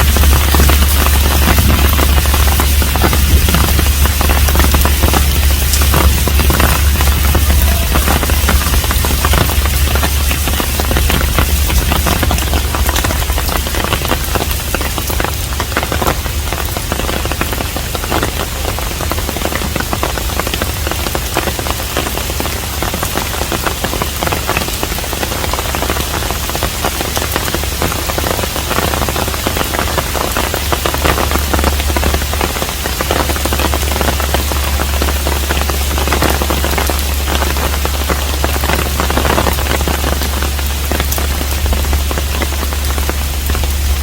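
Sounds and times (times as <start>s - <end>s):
low rumble: 0.0s - 44.0s
rain patter: 0.0s - 44.0s.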